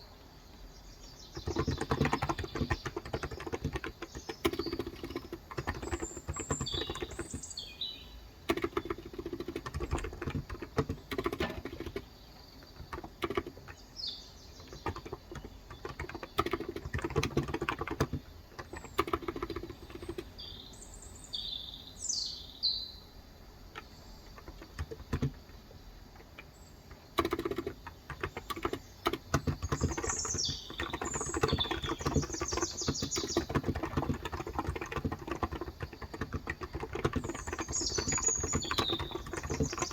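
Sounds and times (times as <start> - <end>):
birds chirping: 0.0 - 39.9
typing on a keyboard: 1.2 - 7.6, 8.4 - 20.5, 23.7 - 39.9.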